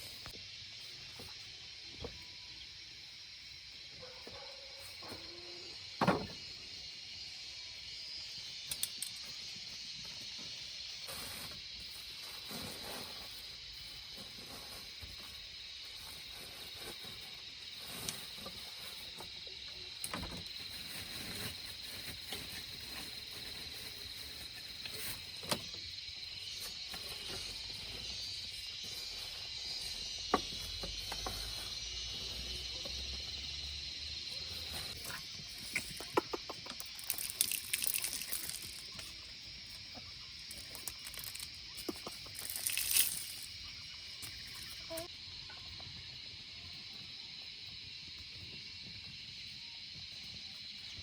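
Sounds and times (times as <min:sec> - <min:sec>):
insect drone: 0:00.0 - 0:51.0.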